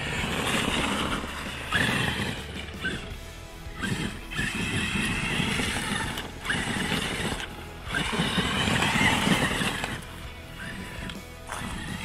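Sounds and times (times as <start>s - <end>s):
electric motor whining: 0.0s - 12.0s
tires churning snow: 0.0s - 12.0s.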